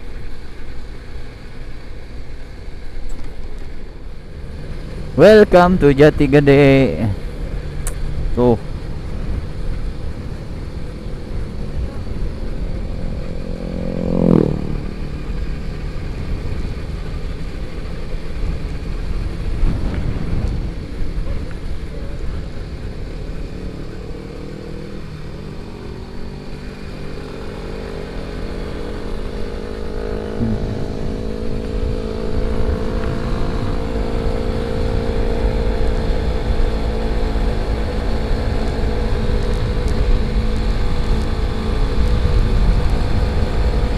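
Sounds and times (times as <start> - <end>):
motorcycle engine: 0.0 - 43.9
wind and road noise: 0.0 - 43.9.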